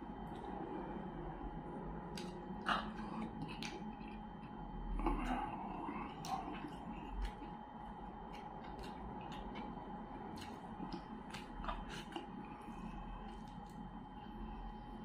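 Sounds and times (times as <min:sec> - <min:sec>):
faint steady hum: 0:00.0 - 0:15.0
chewing: 0:02.1 - 0:14.7.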